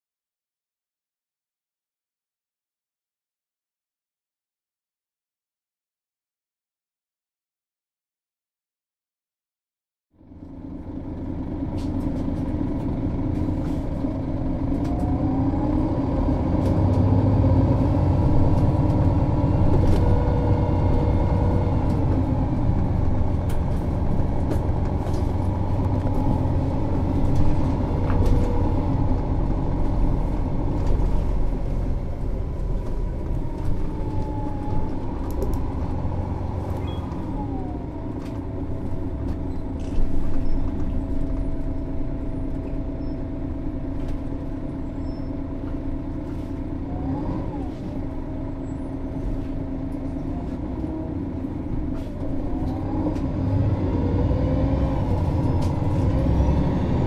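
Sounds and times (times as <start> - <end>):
bus diesel engine idling: 10.2 - 57.0.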